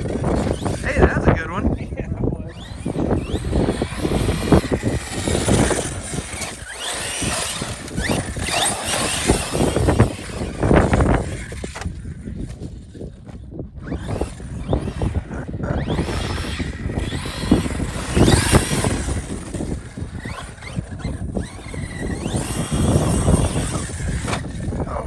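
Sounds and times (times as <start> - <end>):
rc car motor whining: 0.0 - 25.0
rough rushing noise: 2.4 - 13.0, 13.8 - 25.0.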